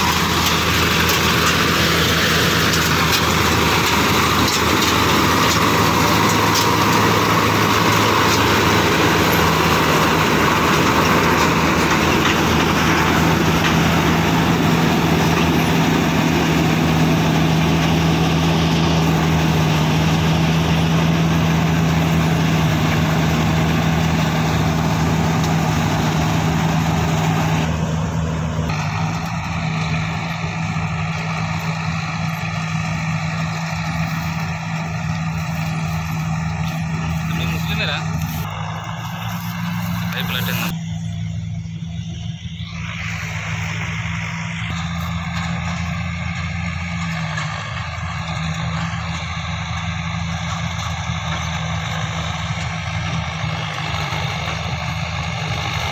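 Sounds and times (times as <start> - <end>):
combine harvester droning: 0.0 - 55.9.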